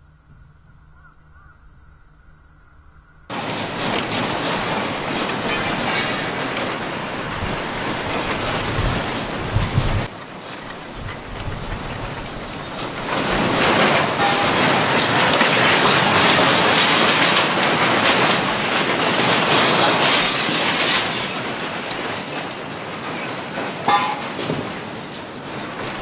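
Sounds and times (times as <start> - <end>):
buildings rumbling and rattling: 0.0 - 26.0.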